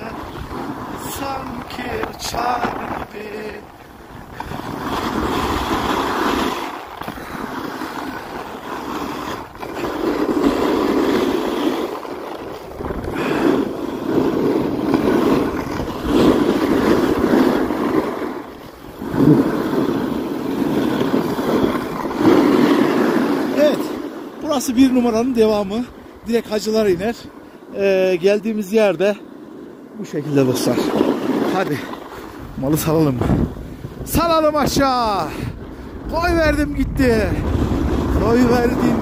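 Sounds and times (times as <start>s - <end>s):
wind rushing over microphone: 0.0s - 29.2s, 30.0s - 39.0s
skis scraping over snow: 0.0s - 39.0s.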